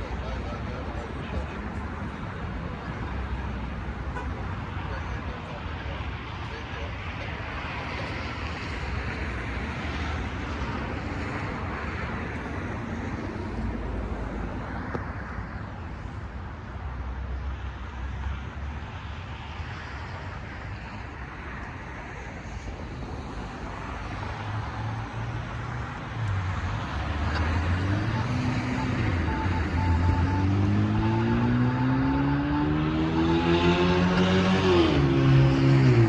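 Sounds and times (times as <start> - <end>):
distant vehicle engines rumbling: 0.0 - 36.0.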